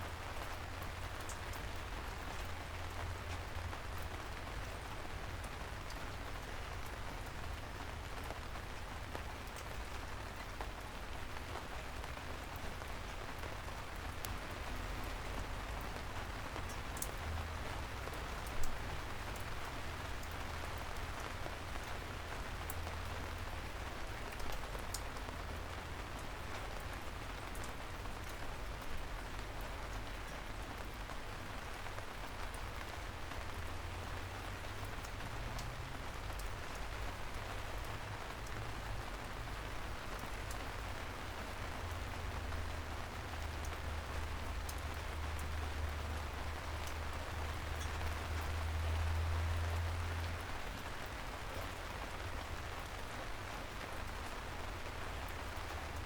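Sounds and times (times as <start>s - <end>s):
rain falling on street: 0.0s - 56.0s.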